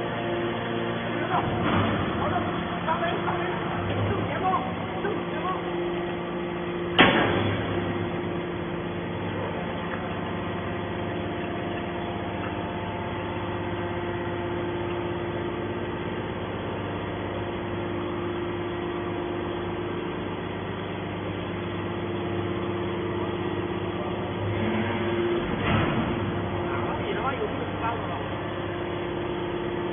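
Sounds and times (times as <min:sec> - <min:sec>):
hydraulic motor and pump humming: 0:00.0 - 0:29.9.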